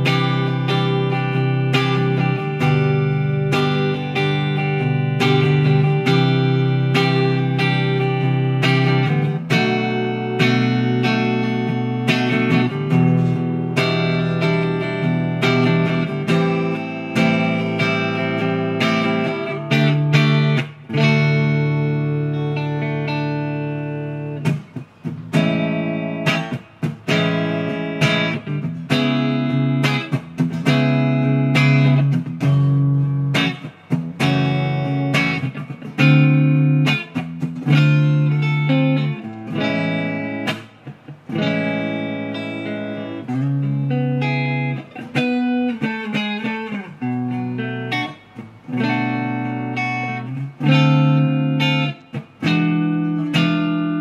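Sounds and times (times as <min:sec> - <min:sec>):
electric guitar chords and riffs: 0:00.0 - 0:54.0.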